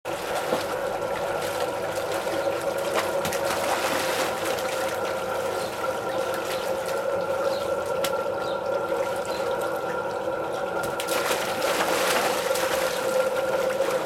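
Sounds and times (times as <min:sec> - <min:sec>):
pool water splashing: 0:00.1 - 0:14.0
steady hum: 0:00.1 - 0:14.0.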